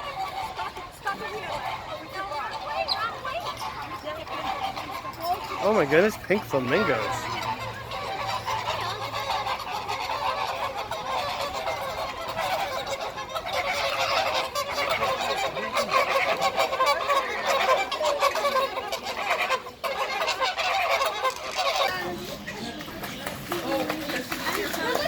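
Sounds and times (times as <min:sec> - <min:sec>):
flamingos honking: 0:00.0 - 0:22.6.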